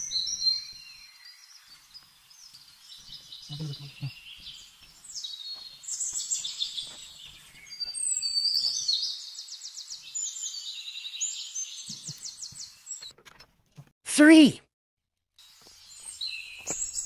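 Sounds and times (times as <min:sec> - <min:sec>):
birds singing and chirping: 0:00.0 - 0:13.2, 0:15.4 - 0:17.0.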